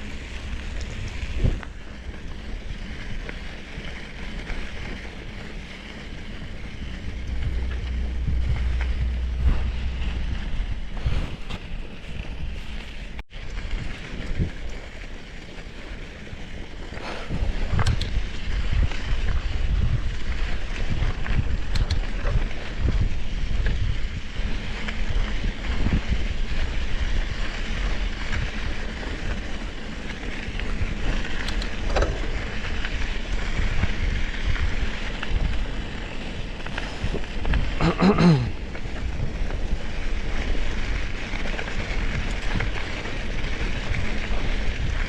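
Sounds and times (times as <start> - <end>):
bike knocking and rattling: 0.0 - 45.0
wind buffeting microphone: 0.0 - 45.0.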